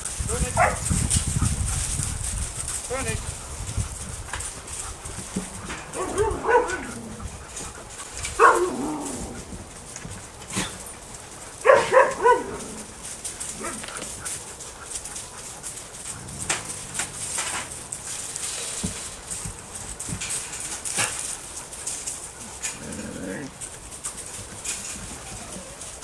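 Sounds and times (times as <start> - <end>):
sled dogs barking and yelping: 0.0 - 26.0.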